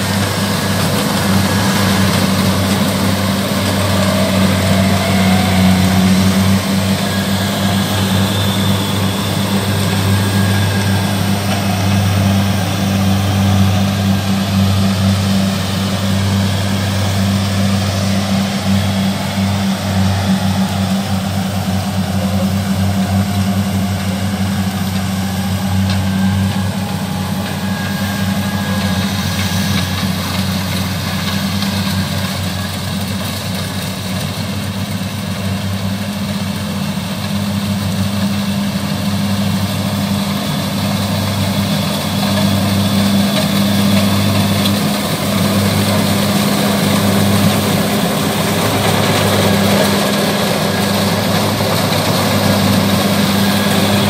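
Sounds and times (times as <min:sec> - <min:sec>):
combine harvester diesel engine: 0:00.0 - 0:54.0.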